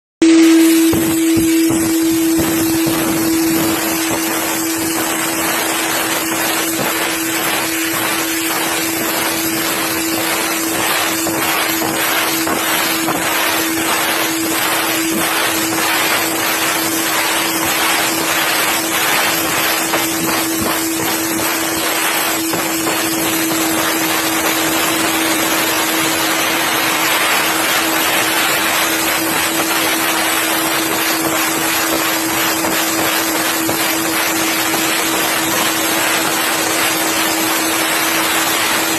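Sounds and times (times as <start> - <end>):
low hum: 0.2 - 38.9
compressed air gun hissing: 0.3 - 38.9.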